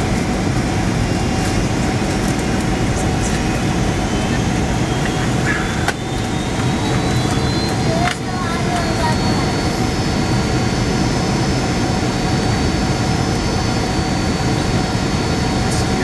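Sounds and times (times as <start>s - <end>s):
jet engine and airflow rush: 0.0s - 16.0s.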